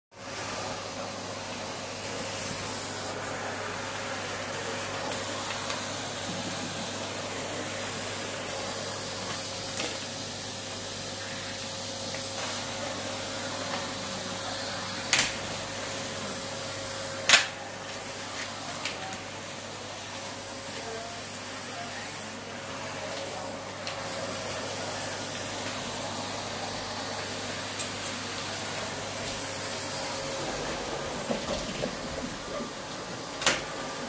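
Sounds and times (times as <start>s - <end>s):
vacuum cleaner running: 0.1s - 34.0s.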